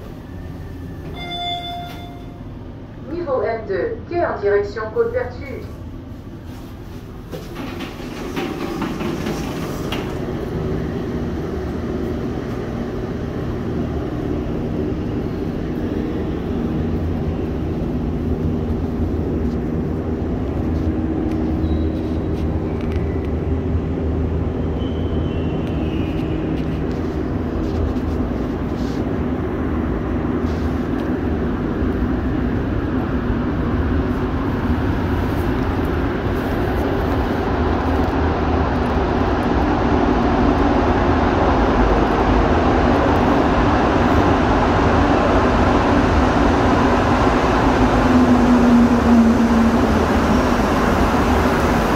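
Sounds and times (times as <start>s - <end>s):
metro train rumbling: 0.0s - 51.9s.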